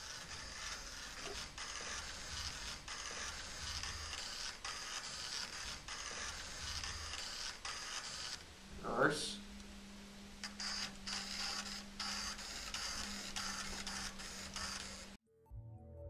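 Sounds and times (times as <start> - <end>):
small electric motor whirring: 0.0 - 8.5, 9.3 - 15.2.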